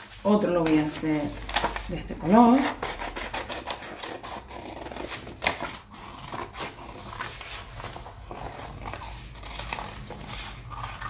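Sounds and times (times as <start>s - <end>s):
scissors cutting paper: 0.5s - 11.0s.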